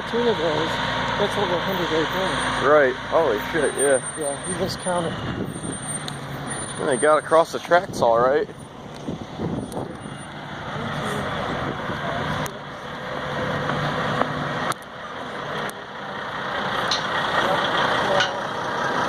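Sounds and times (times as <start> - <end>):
truck diesel engine: 0.0 - 19.0.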